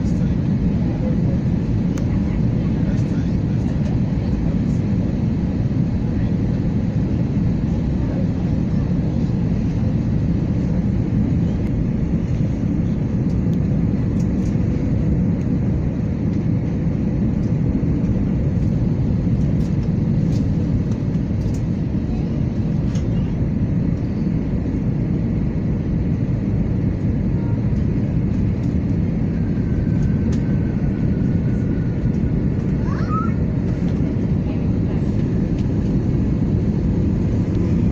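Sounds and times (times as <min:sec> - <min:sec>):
airplane cabin roar: 0:00.0 - 0:37.9.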